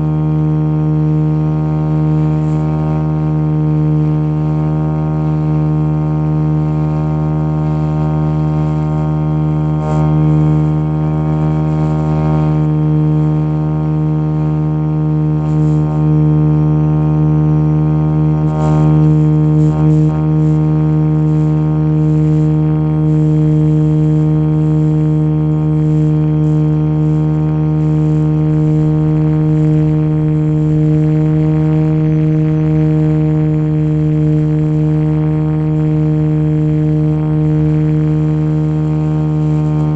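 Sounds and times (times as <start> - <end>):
model helicopter rotor humming: 0.0 - 39.9.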